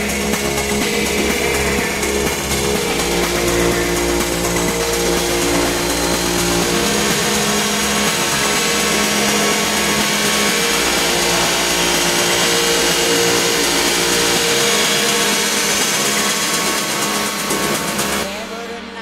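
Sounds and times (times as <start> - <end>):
electronic dance music: 0.0 - 19.0.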